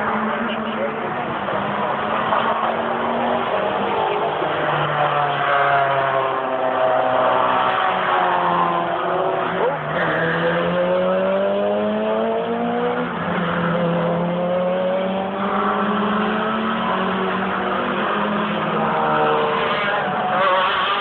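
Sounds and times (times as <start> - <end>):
race car engines at full throttle: 0.0 - 21.0.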